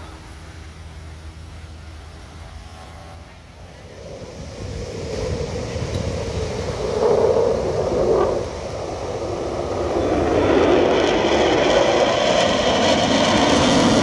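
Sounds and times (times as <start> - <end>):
fighter jets flying past: 0.0 - 14.0
wind: 0.0 - 14.0.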